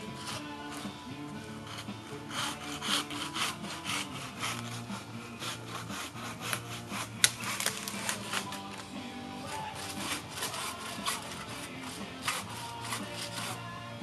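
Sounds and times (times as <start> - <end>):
hand saw cutting wood: 0.0 - 14.0.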